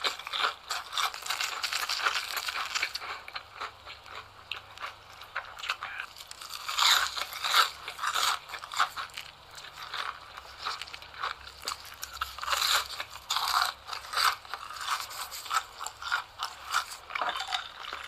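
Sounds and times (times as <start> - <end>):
crunchy biting and chewing: 0.0 - 18.0.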